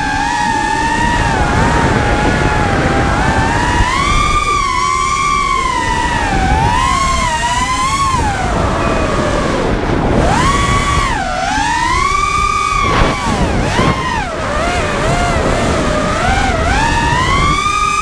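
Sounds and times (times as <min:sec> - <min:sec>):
quadcopter motors whining: 0:00.0 - 0:18.0
wind rushing over microphone: 0:00.0 - 0:18.0.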